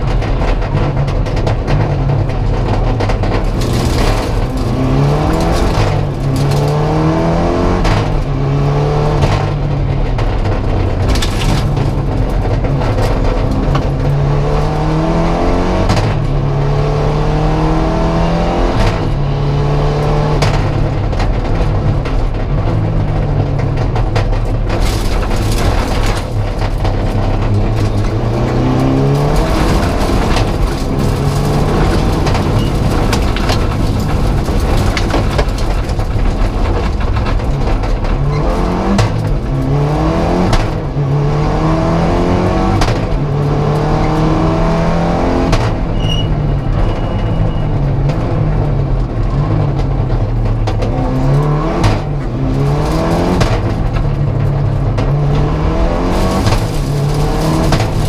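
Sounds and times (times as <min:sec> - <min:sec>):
car engine revving: 0:00.0 - 0:58.0
road and tyre noise: 0:00.0 - 0:58.0.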